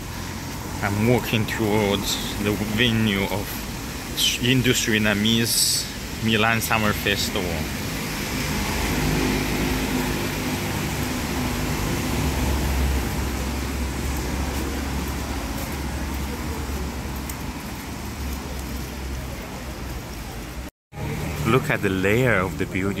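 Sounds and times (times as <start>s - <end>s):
city street traffic: 0.0s - 23.0s.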